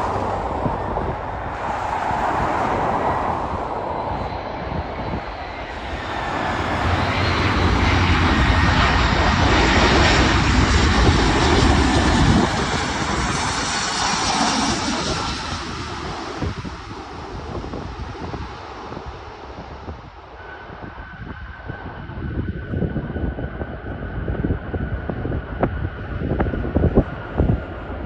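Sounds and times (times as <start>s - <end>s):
jetliner passing: 0.0s - 28.0s.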